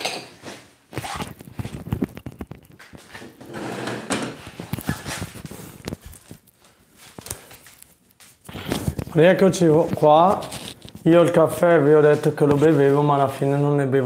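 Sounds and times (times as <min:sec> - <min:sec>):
cloth rustling against microphone: 0:00.4 - 0:03.4, 0:04.4 - 0:13.6.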